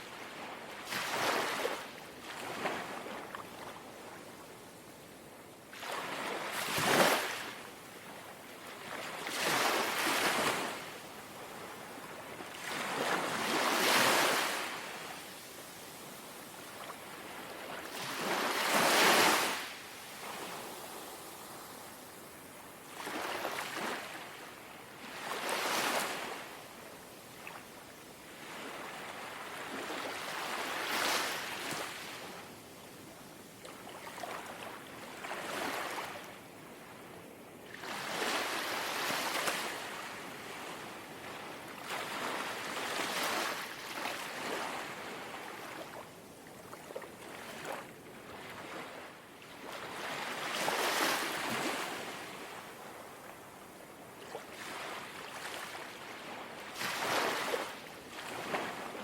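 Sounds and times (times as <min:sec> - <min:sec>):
small waves lapping on shore: 0:00.0 - 0:59.0.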